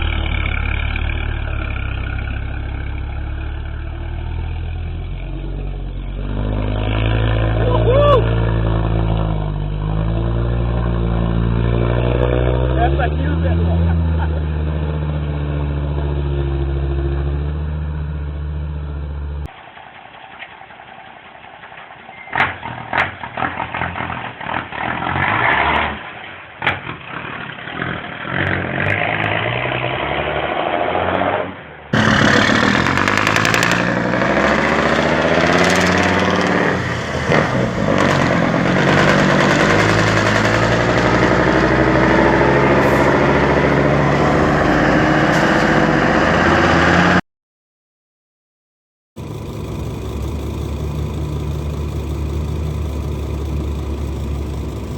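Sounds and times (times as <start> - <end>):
truck engines rumbling: 0.0 - 47.2, 49.2 - 54.9.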